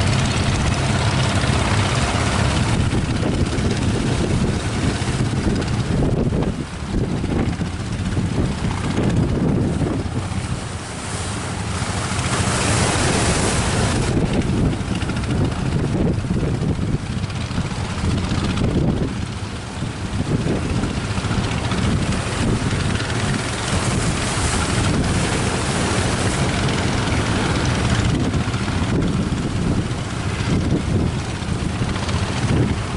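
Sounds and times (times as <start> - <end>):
surf breaking on beach: 0.0 - 32.9
wind buffeting microphone: 0.0 - 32.9.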